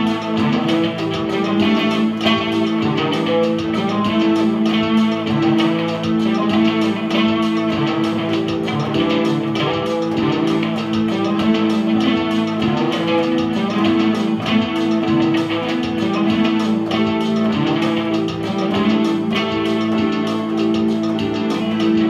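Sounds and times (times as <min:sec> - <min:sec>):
electric guitar strummed chords: 0:00.0 - 0:22.0
electronic keyboard notes: 0:00.0 - 0:22.0.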